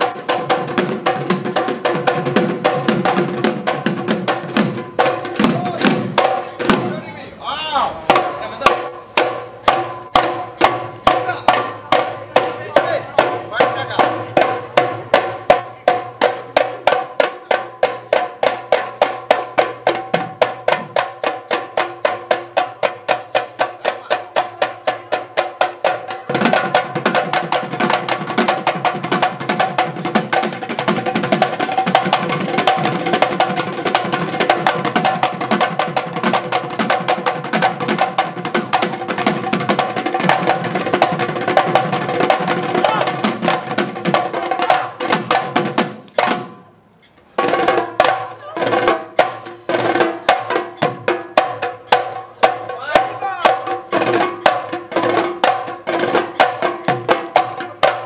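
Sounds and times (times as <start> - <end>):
barrel drums beaten fast: 0.0 - 7.1, 8.0 - 46.6, 47.4 - 58.0.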